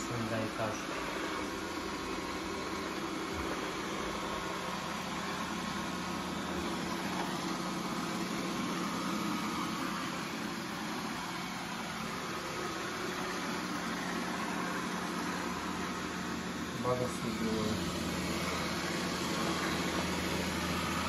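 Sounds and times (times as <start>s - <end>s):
robot vacuum whirring: 0.2s - 21.0s.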